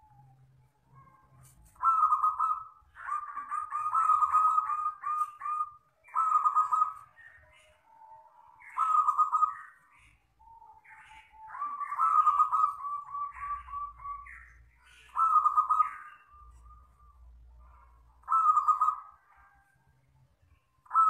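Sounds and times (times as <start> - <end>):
dove cooing: 0.0 - 19.6.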